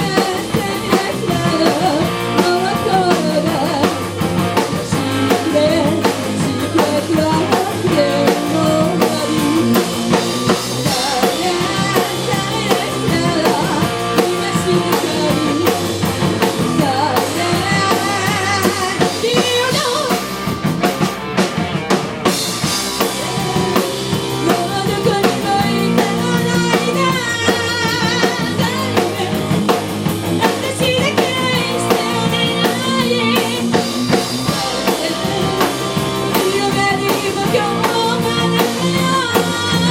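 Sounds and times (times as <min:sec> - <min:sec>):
person singing: 0:00.0 - 0:20.4, 0:22.6 - 0:39.9
guitar: 0:00.0 - 0:39.9.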